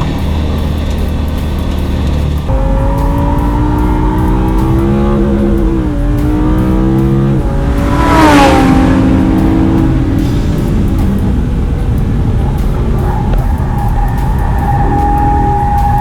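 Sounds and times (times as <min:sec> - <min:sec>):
race car engine accelerating: 0:00.0 - 0:16.0
rush with falling pitch: 0:00.0 - 0:16.0.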